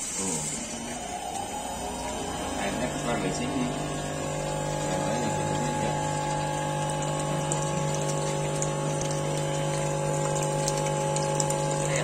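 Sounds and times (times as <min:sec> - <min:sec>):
electric pump humming: 0:00.0 - 0:12.0
water splashing into a basin: 0:00.0 - 0:12.0.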